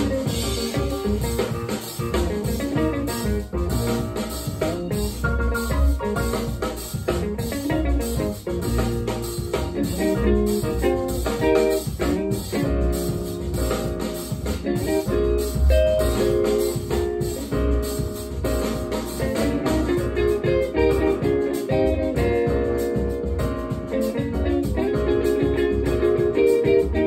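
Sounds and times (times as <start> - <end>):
guitar and drums music over speakers: 0.0 - 27.0.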